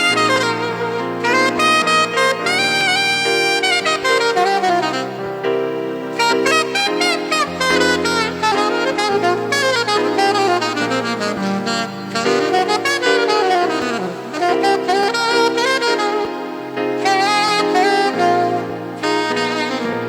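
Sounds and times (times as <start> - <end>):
saxophone melody: 0.0 - 20.0.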